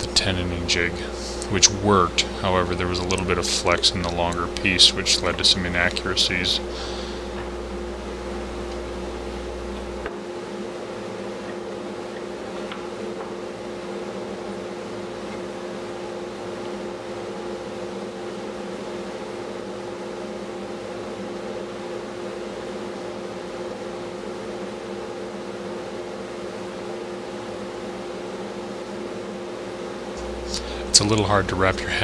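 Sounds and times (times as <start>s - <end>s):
workshop machine humming: 0.0s - 32.0s.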